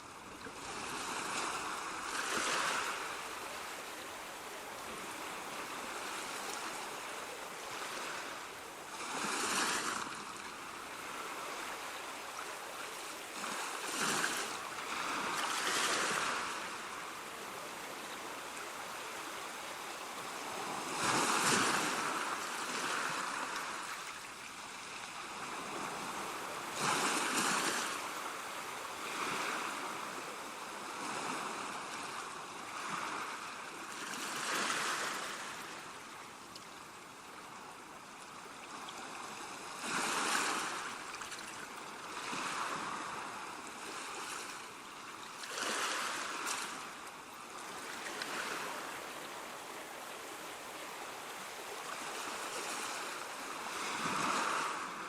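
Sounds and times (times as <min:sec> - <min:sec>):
sea waves breaking in surf: 0:00.0 - 0:36.4, 0:37.4 - 0:55.0.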